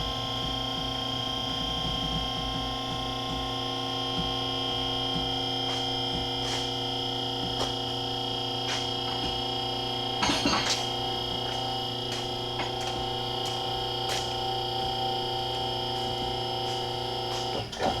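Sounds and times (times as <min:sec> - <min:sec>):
hydraulic pump humming: 0:00.0 - 0:18.0.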